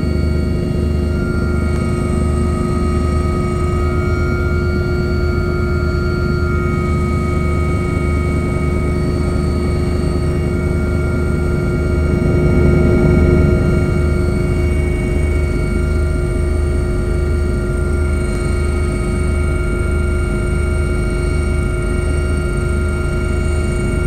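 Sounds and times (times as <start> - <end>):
helicopter rotor beat: 0.0 - 24.0
turbine whine: 0.0 - 24.0.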